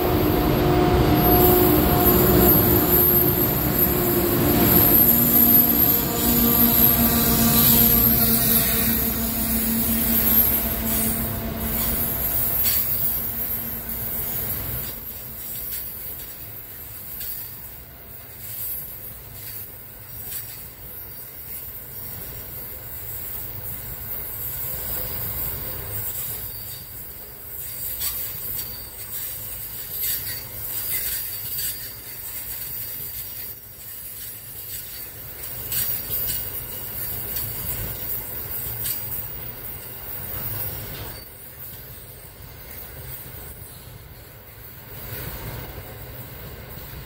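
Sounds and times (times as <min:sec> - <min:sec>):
high-pitched metallic wheel squeals: 0:00.0 - 0:47.0
train wheels rumbling on rails: 0:00.0 - 0:47.0.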